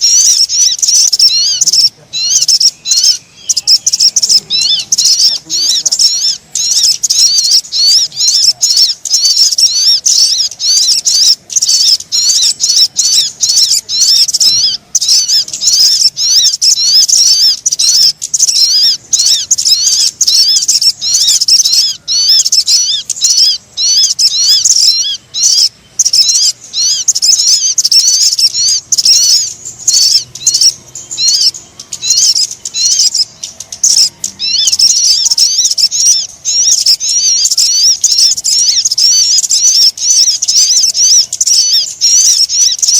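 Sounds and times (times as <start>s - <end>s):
birds chirping and twittering: 0.0s - 42.9s.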